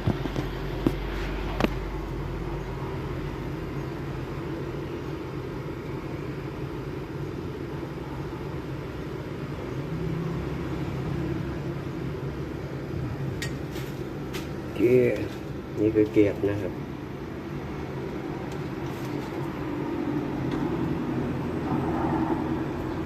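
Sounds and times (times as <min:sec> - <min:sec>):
air conditioner unit humming: 0:00.0 - 0:23.0.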